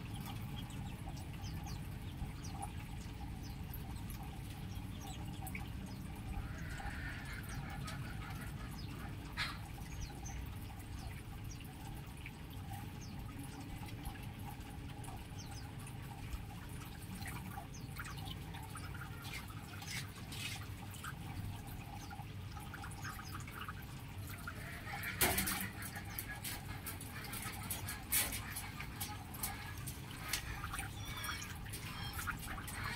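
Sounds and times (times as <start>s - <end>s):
birds chirping and clicking: 0.0s - 32.9s.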